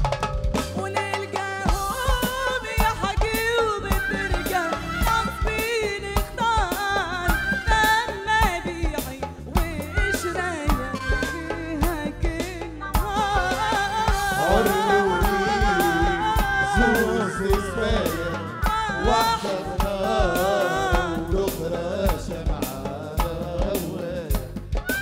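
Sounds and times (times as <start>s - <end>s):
keyboard: 0.0s - 25.0s
steady drum beat: 0.0s - 25.0s.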